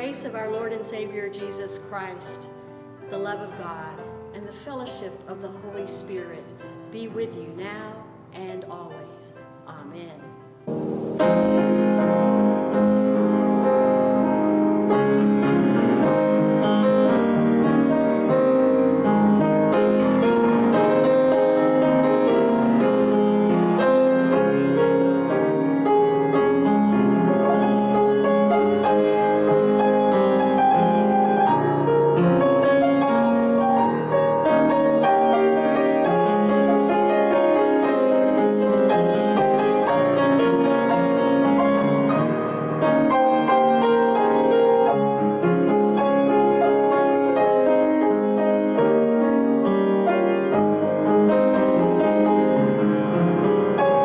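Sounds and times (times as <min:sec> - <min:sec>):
piano playing chords and melody: 0:00.0 - 0:54.0.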